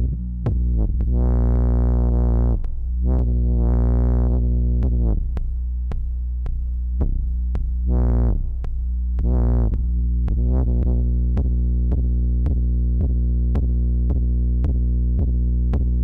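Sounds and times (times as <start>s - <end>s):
distorted synthesizer drone: 0.0s - 16.0s.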